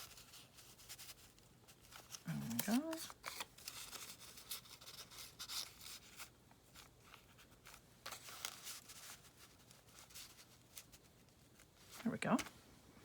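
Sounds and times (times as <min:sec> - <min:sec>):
paper rustling and scraping: 0:00.0 - 0:12.5.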